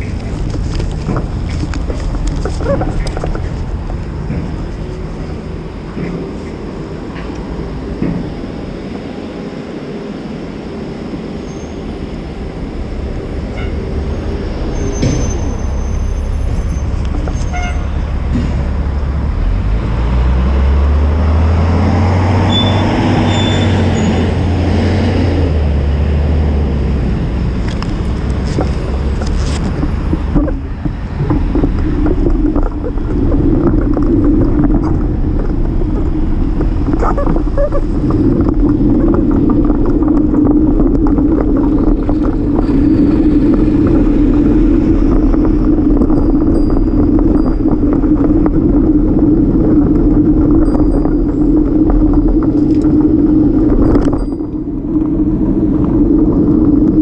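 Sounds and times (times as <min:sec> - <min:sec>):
passing vehicle hum: 0:00.0 - 0:57.0
street traffic road noise: 0:00.0 - 0:57.0.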